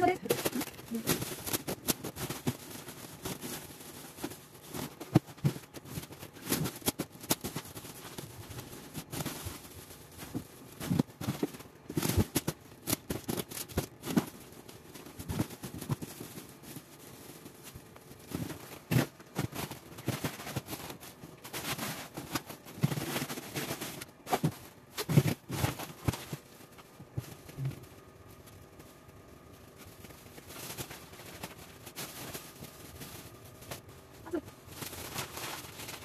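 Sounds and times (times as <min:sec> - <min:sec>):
plastic bags crinkling: 0:00.0 - 0:36.0.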